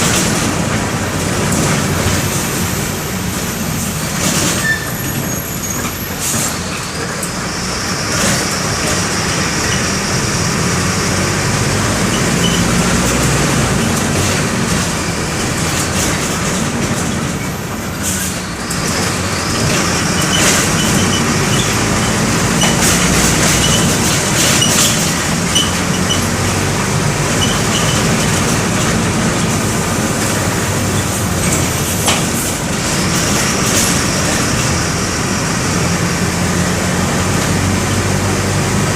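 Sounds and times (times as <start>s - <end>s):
bus diesel engine running: 0.0s - 38.9s
road noise: 0.0s - 38.9s.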